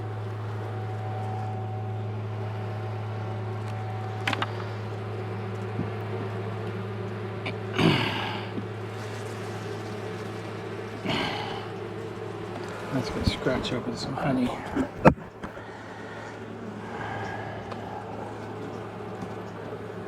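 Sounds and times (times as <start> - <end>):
bee colony humming: 0.0 - 20.0.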